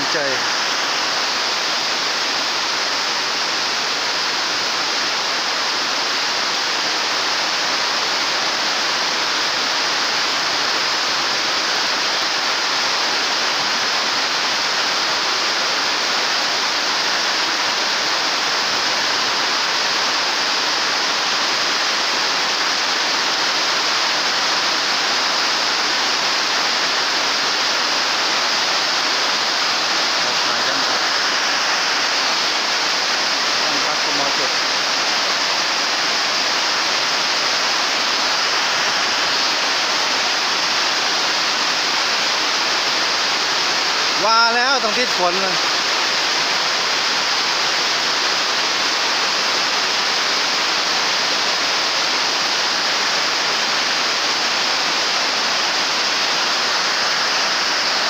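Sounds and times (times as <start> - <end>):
heavy rain on roof: 0.0 - 58.0.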